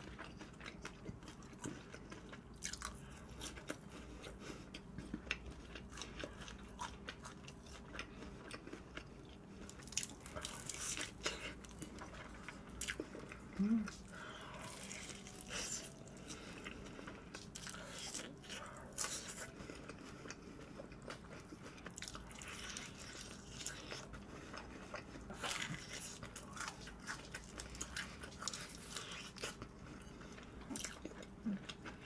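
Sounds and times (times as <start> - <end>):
crunching and chewing fried chicken: 0.0 - 32.0.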